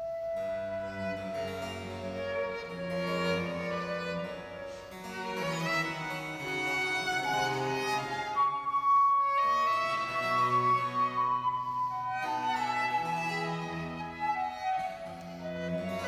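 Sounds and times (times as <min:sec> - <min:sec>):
cello: 0:00.0 - 0:16.0
violin: 0:00.0 - 0:16.0
wooden flute: 0:00.0 - 0:16.0.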